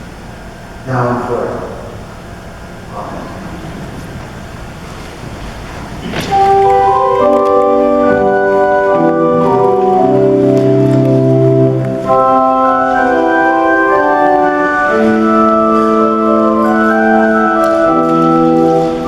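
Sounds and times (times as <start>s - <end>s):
church organ chords: 0.0s - 19.0s.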